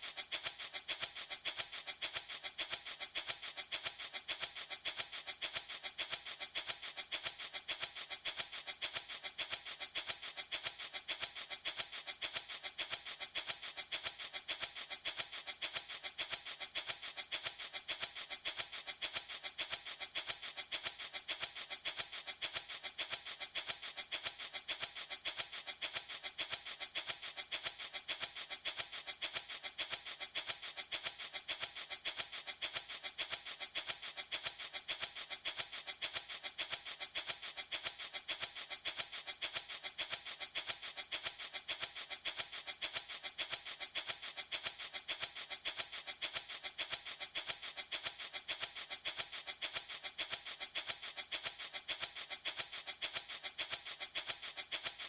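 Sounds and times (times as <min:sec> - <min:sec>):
rattle shaken rhythmically: 0:00.0 - 0:55.0.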